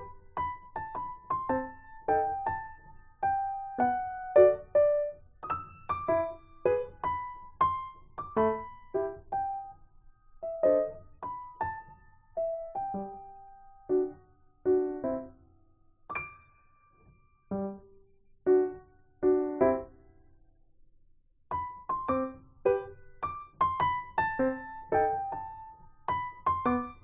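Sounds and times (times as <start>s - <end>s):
slow piano melody: 0.0s - 20.4s, 21.5s - 27.0s.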